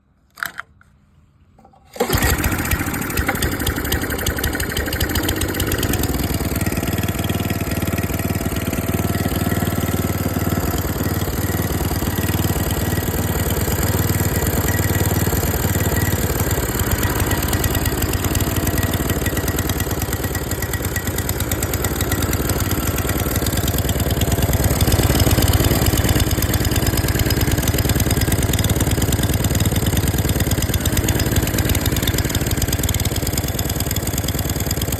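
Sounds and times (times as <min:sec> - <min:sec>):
small engine running: 0:02.0 - 0:34.9.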